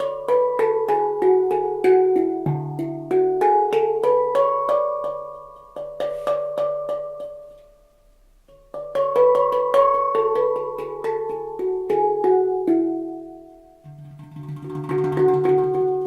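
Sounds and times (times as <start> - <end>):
handpan notes played by hand: 0.0 - 16.0.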